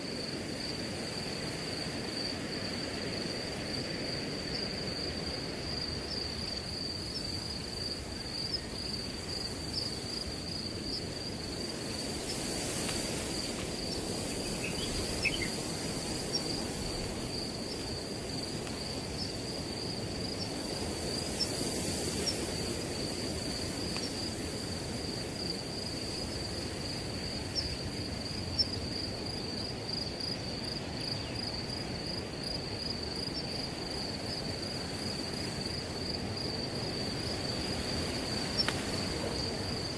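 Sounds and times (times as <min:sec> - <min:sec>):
crickets trilling: 0:00.0 - 0:39.9
wind through grass: 0:00.0 - 0:39.9.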